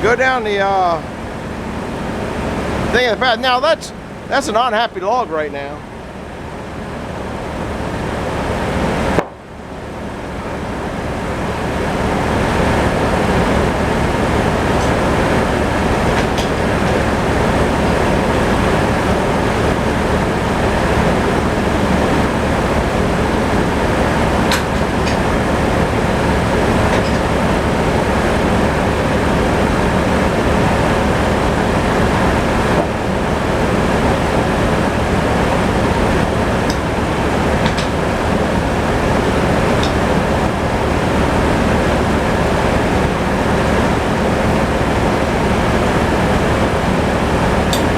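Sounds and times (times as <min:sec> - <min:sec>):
mill engine running: 0:00.0 - 0:47.9.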